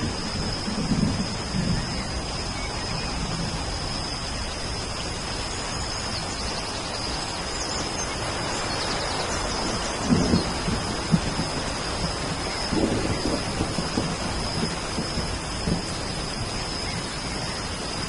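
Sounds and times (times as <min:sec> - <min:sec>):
low thunder rumble: 0:00.0 - 0:07.2, 0:09.0 - 0:18.0
steady rain: 0:00.0 - 0:18.0.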